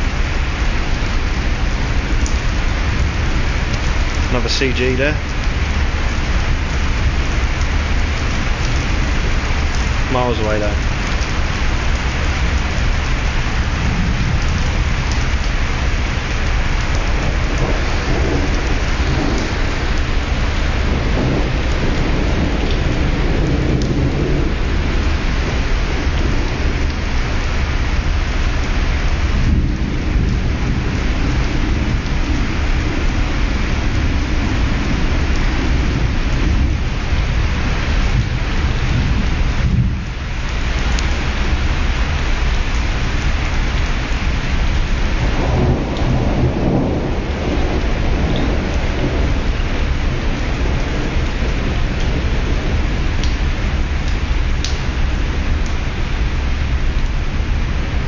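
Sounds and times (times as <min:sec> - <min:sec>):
rain: 0:00.0 - 0:58.0
ship wake rushing: 0:00.0 - 0:58.0
wind: 0:00.0 - 0:58.0.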